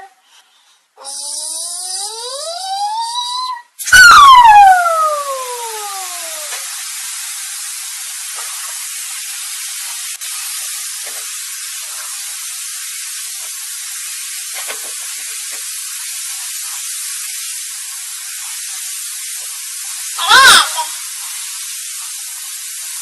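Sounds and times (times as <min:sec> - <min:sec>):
steady high hiss: 0:00.2 - 0:23.0.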